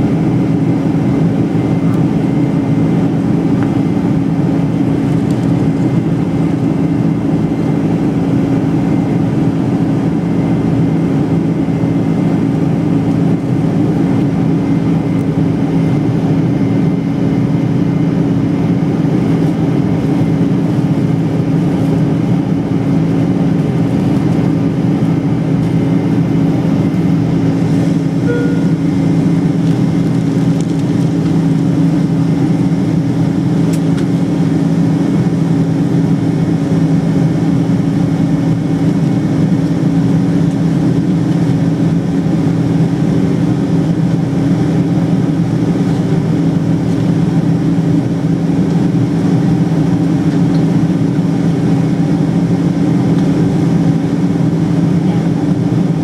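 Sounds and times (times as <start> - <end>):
airplane cabin engine drone: 0.0 - 56.0
low two-tone hum: 0.0 - 56.0.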